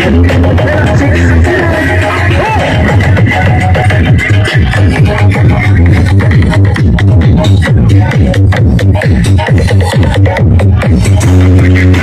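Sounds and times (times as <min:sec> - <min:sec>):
electronic dance music with heavy bass: 0:00.0 - 0:12.0.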